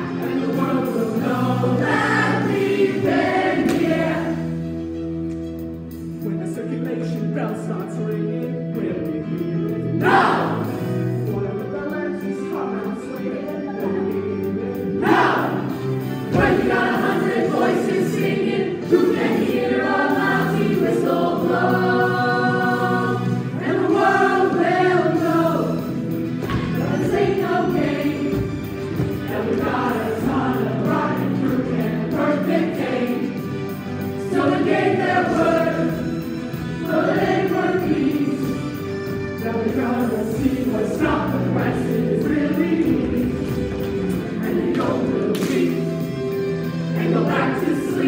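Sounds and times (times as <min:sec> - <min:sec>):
children's choir singing: 0:00.0 - 0:04.7, 0:10.0 - 0:11.6, 0:12.7 - 0:48.0
instrumental accompaniment: 0:00.0 - 0:48.0.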